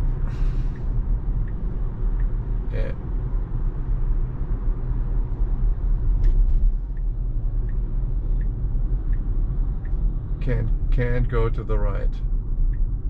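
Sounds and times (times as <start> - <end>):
road and tyre rumble in car: 0.0 - 13.0
turn signal ticking: 0.0 - 13.0.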